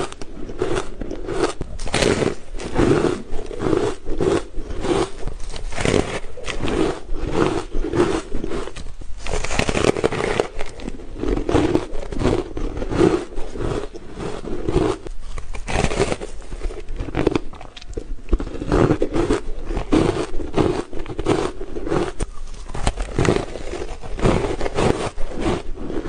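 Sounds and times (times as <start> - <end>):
chewing ice crunches: 0.0 - 26.0.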